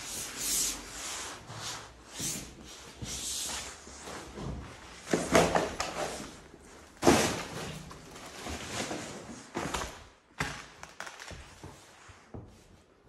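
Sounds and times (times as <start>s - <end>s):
thumps and scrapes in a bare room: 0.0s - 13.0s.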